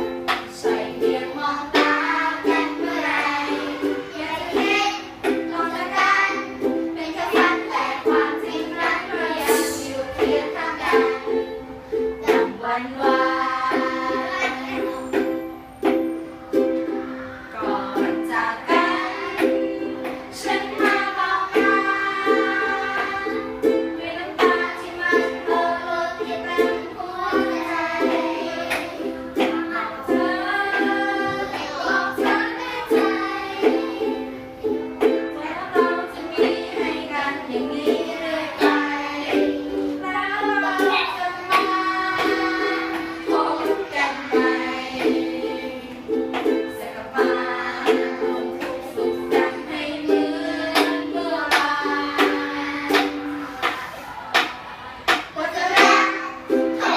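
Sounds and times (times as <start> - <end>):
person singing: 0.0 - 15.3, 16.9 - 56.9
strummed small string instrument: 0.0 - 56.9.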